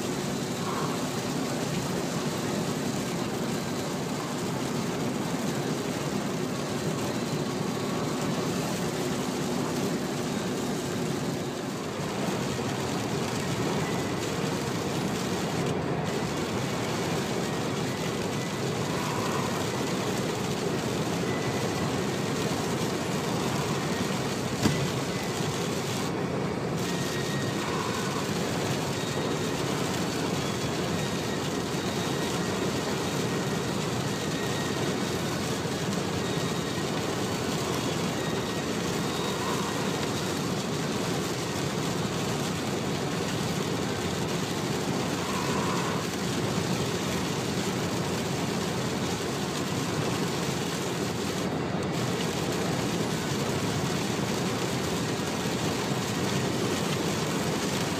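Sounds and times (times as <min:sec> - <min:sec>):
car road and engine noise: 0:00.0 - 0:57.5.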